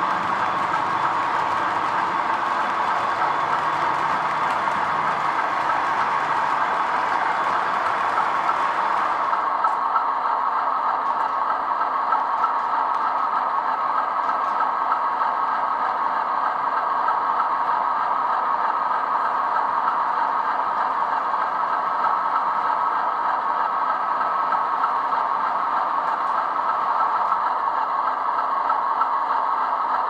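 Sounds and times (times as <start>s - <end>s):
model train whirring rattle: 0.0s - 30.0s.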